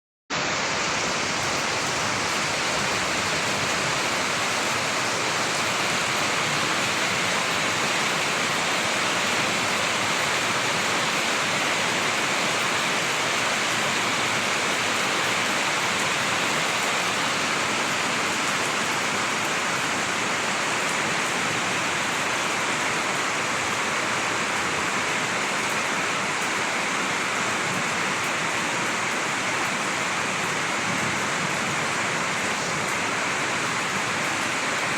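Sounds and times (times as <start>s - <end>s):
heavy rain: 0.3s - 34.9s.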